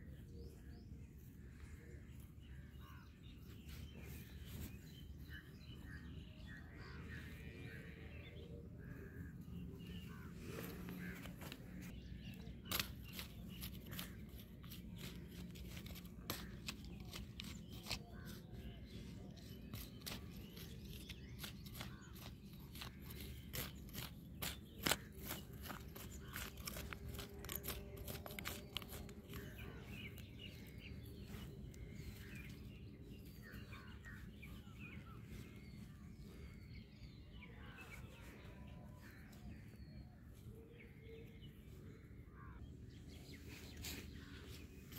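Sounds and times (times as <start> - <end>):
birds chirping: 0.0 - 44.9
scraping in dry soil: 0.3 - 44.9.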